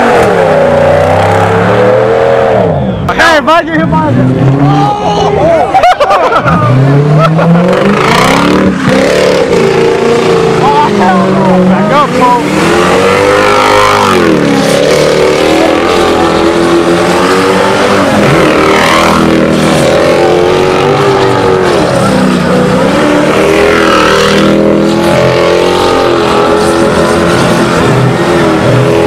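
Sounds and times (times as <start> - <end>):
car engine revving hard: 0.0 - 3.0, 6.4 - 29.0.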